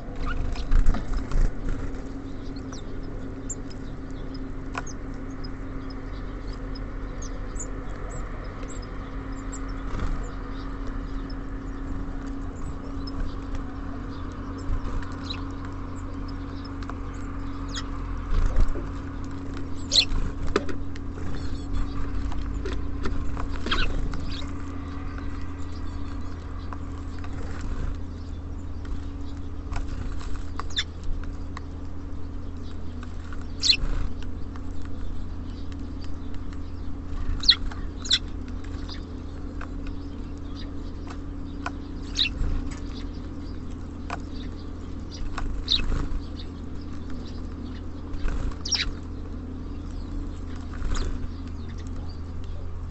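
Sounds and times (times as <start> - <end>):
birds pecking on feeder: 0.0 - 52.9
low hum: 0.0 - 52.9
songbirds chirping: 0.0 - 52.9.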